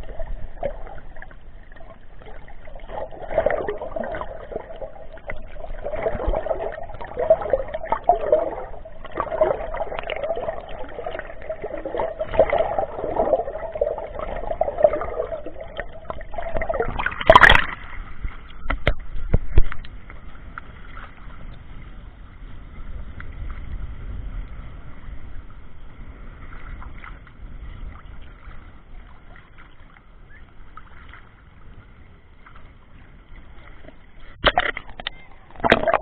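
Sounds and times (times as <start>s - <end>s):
muffled water sloshing: 0.0s - 36.0s.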